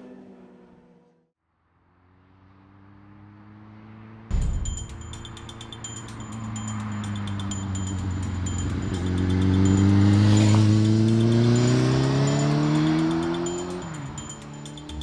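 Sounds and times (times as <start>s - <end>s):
motorcycle engine accelerating: 2.2s - 15.0s.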